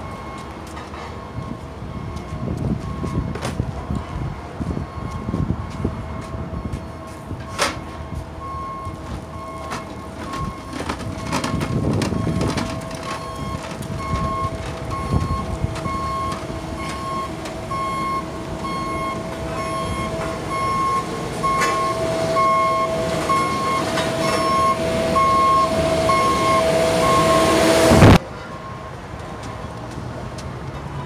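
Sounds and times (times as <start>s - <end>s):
backup alarm beeping: 0.0s - 3.4s, 4.6s - 29.7s
diesel engine: 0.0s - 31.0s.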